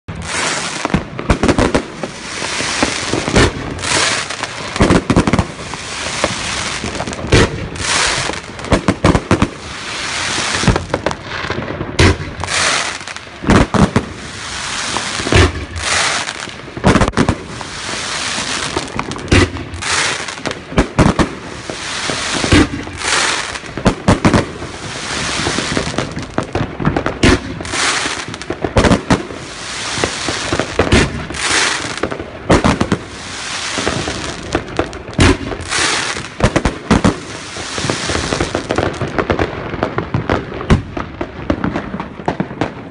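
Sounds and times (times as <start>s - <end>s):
fireworks reports: 0.1s - 42.9s
hiss of burning fireworks: 0.1s - 42.9s.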